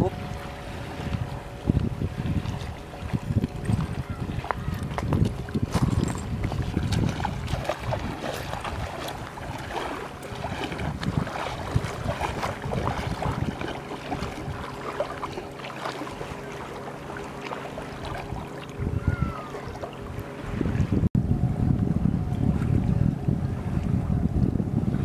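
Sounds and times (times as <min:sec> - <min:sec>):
small waves lapping: 0:00.0 - 0:21.0
splashes of wading: 0:00.0 - 0:21.1
wind buffeting microphone: 0:00.0 - 0:25.0.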